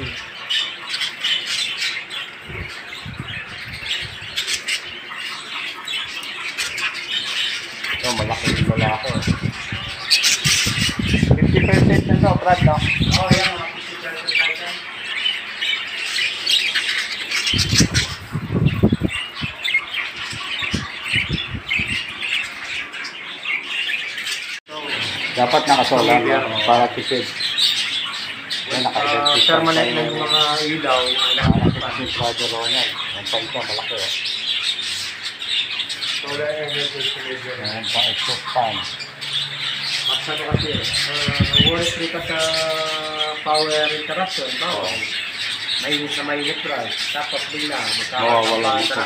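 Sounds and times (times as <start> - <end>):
budgerigars chattering and squawking: 0.0 - 49.0.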